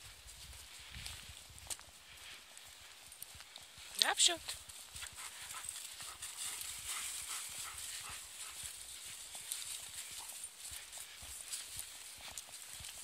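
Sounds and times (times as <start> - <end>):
dog paws rustling dry leaves: 0.0 - 13.0
footsteps in dry leaves: 0.0 - 13.0.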